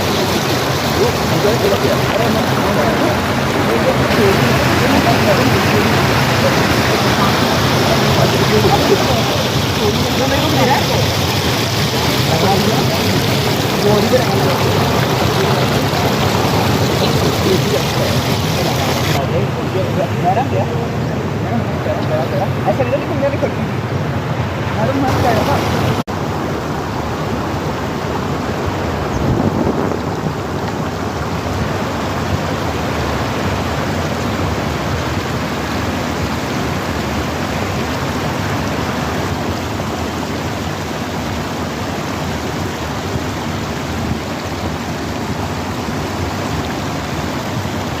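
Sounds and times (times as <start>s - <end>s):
river water rushing over stones: 0.0s - 48.0s.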